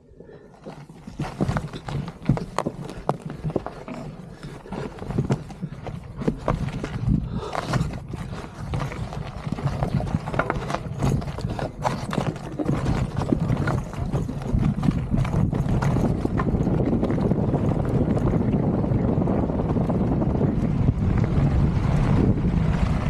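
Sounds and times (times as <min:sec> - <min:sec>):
tyre and wind rush: 0:00.6 - 0:23.0
bike clattering over loose rock: 0:00.7 - 0:20.6.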